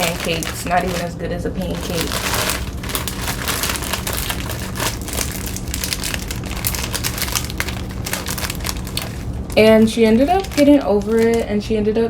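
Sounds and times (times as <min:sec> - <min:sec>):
packaging crinkling: 0:00.0 - 0:11.6
steady low hum: 0:00.0 - 0:12.0.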